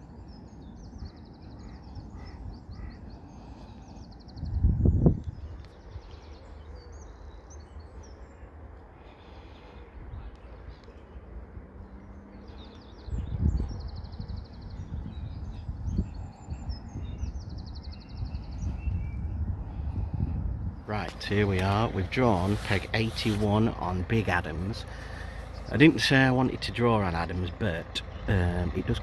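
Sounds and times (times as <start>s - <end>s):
small birds singing: 0.0s - 29.0s
wind rumble on microphone: 0.0s - 29.0s.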